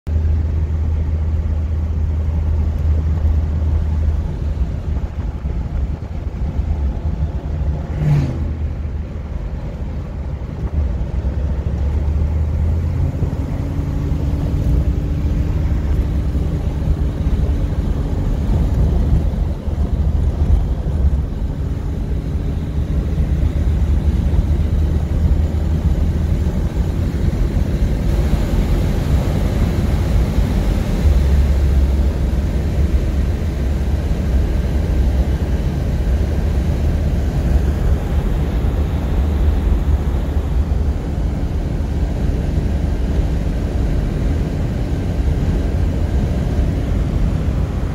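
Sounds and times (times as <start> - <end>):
road and tyre noise: 0.0 - 47.9
car engine droning: 0.1 - 47.9.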